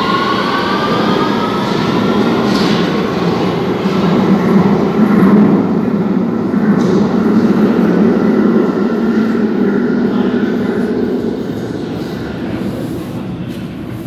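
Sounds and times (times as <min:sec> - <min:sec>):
underground train rumbling: 0:00.0 - 0:14.0.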